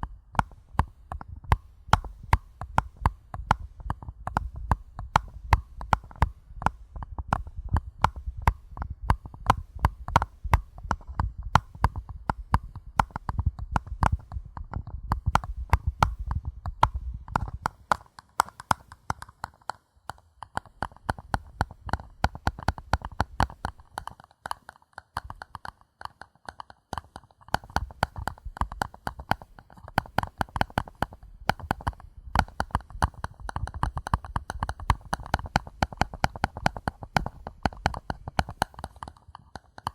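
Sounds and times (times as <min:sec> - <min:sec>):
fingers tapping paper cups: 0:00.0 - 0:39.9.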